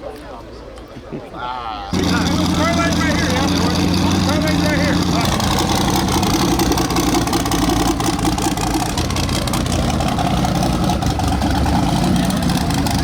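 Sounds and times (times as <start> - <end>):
car engine idling: 1.9 - 13.0.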